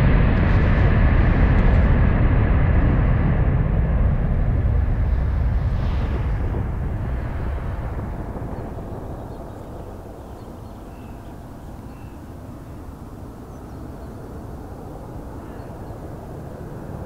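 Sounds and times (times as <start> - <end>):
distant jet engine rumble: 0.0 - 17.0.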